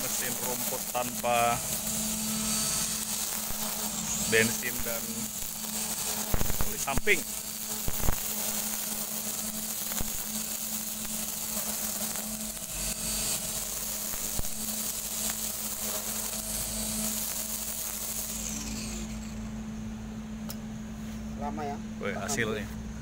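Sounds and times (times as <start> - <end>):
string trimmer cutting grass: 0.0 - 19.5.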